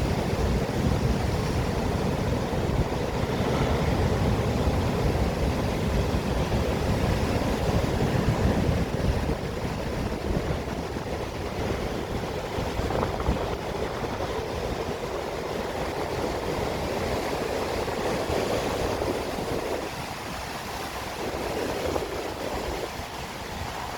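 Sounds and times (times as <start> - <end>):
low rumble of waves: 0.0 - 23.9
sea waves washing: 0.0 - 23.9.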